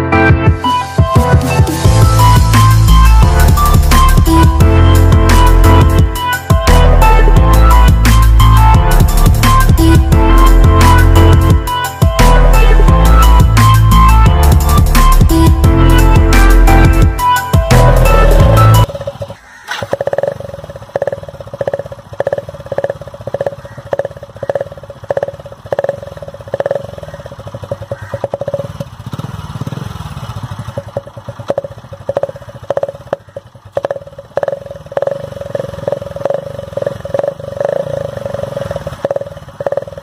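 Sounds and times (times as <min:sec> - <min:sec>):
motorcycle engine pulsing exhaust: 0:00.5 - 0:40.0.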